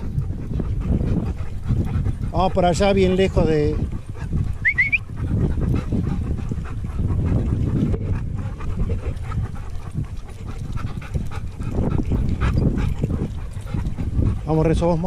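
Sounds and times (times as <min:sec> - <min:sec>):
dog panting: 0:00.0 - 0:15.0
steady low rumble: 0:00.0 - 0:15.0.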